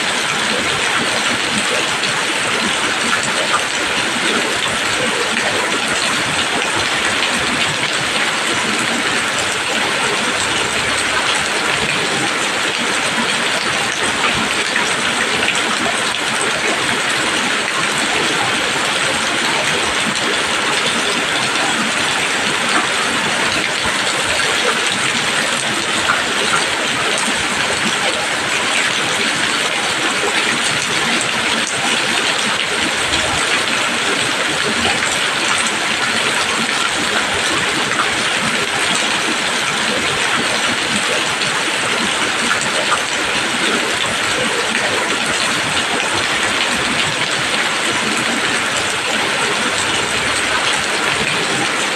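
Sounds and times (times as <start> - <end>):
rain pattering on leaves: 0.0 - 51.9.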